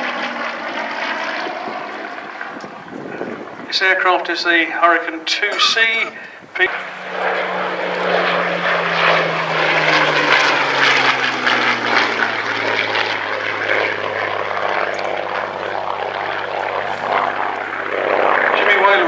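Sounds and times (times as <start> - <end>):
propeller plane engine in flight: 0.0 - 19.0.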